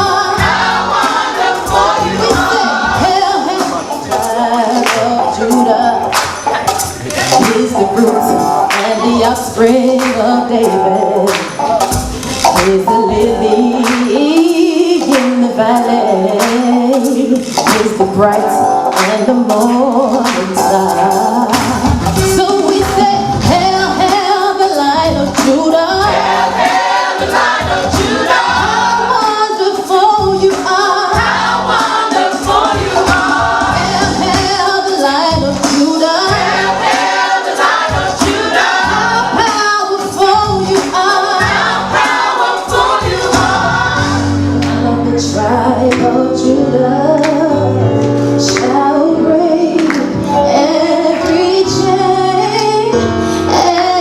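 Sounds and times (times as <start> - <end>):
gospel choir singing: 0.0 - 17.4, 20.0 - 48.0
instrumental backing with beat: 0.0 - 54.0.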